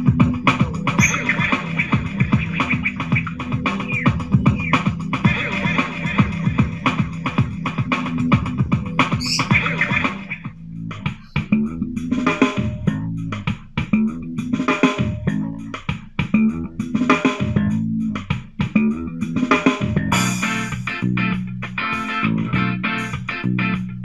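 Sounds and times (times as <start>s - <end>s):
band music from speaker: 0.0s - 24.0s.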